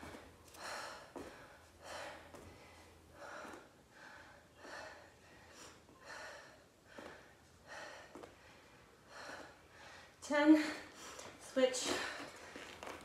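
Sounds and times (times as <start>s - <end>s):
woman breathing hard: 0.0s - 12.7s.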